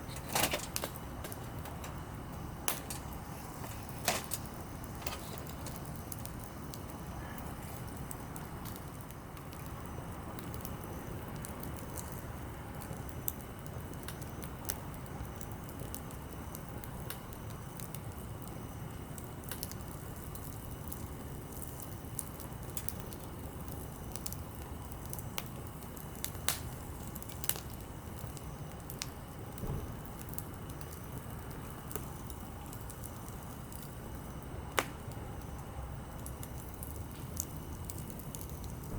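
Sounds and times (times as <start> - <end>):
campfire burning: 0.0 - 38.9
firewood crackles and pops: 0.0 - 38.9.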